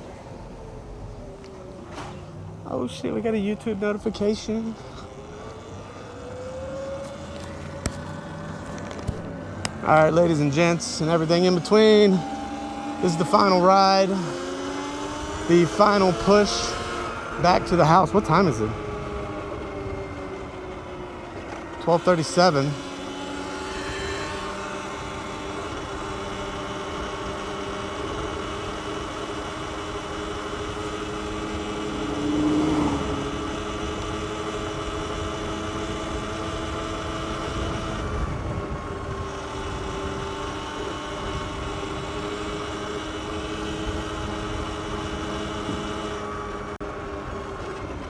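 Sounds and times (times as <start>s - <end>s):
wind and road noise: 0.0s - 48.0s
electric motor whine: 4.5s - 48.0s.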